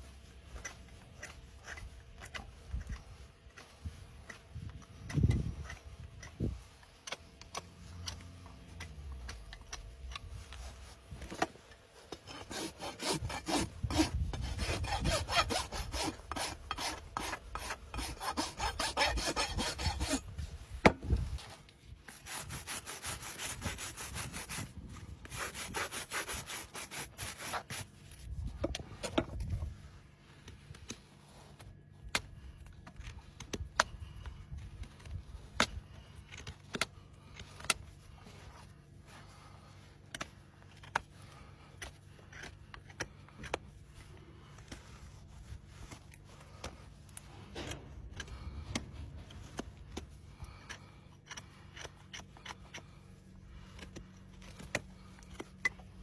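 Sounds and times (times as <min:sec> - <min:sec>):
rasp scraping hoof: 0:00.0 - 0:31.7, 0:32.4 - 0:56.0.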